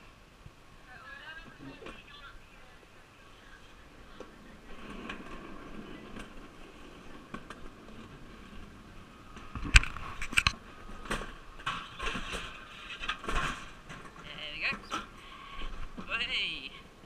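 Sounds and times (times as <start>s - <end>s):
toboggan rushing down steel track: 0.9s - 17.0s.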